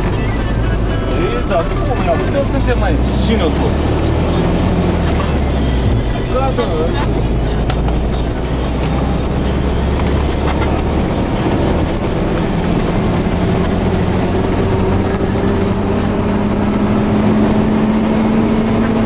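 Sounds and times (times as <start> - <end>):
van engine and road noise: 0.0 - 19.0.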